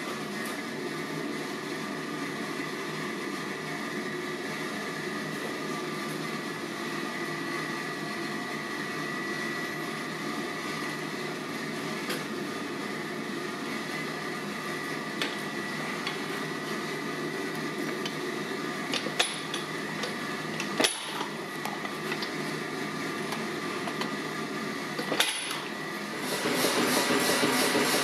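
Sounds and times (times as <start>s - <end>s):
workshop machine humming: 0.0s - 28.0s.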